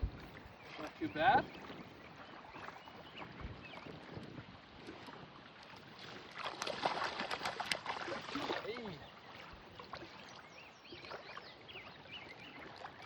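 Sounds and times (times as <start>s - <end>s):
water noise around boat: 0.0s - 13.0s
wind: 0.0s - 13.0s.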